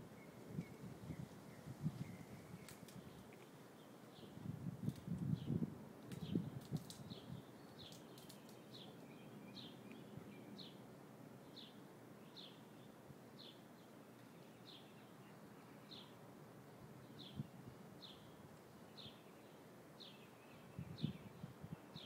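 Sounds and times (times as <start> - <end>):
faint outdoor background: 0.0 - 22.0
songbird chirping: 0.0 - 22.0.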